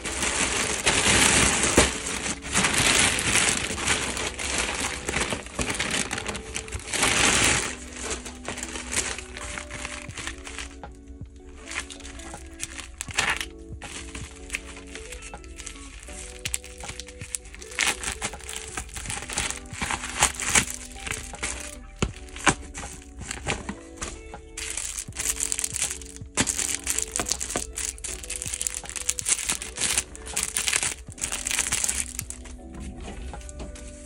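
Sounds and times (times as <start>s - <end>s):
plastic packaging crinkling: 0.0s - 34.0s
soft background music: 0.0s - 34.0s.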